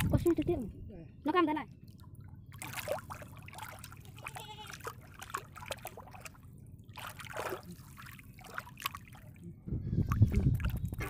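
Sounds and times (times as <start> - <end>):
water splashing and lapping: 0.0 - 0.4, 1.7 - 11.0.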